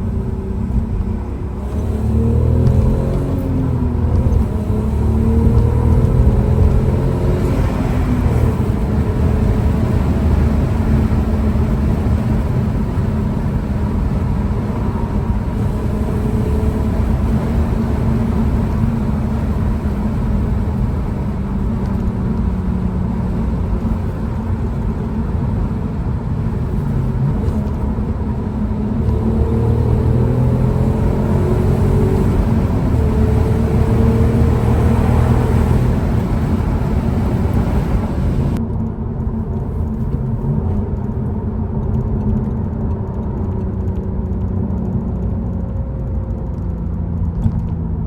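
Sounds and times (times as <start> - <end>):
car engine droning: 0.0 - 48.0.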